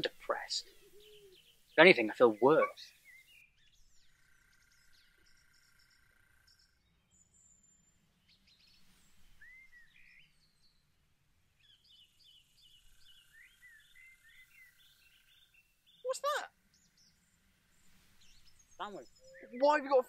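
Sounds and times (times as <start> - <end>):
bird trill: 0.0 - 10.9, 11.6 - 17.2, 17.8 - 20.0
faint birdsong chirps: 0.0 - 20.0.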